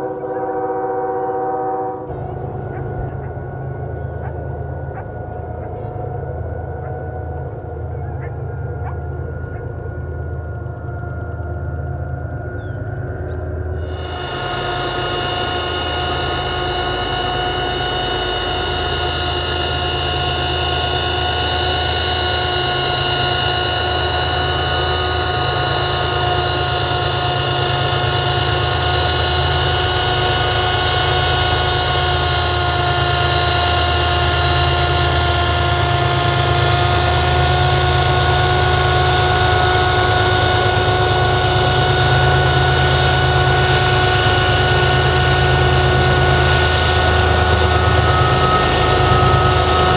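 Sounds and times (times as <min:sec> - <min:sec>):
diesel locomotive engines rumbling: 0:00.0 - 0:49.9
high-pitched whine: 0:00.0 - 0:49.9.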